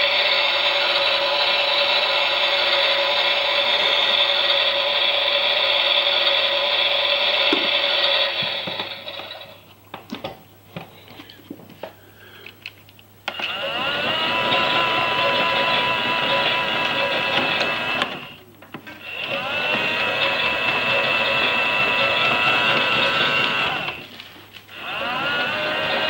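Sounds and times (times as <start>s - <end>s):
steady machine sound: 0.0s - 9.6s, 13.3s - 18.4s, 19.0s - 26.0s
toy washing machine motor whirring: 0.0s - 9.6s, 13.3s - 18.4s, 19.0s - 26.0s.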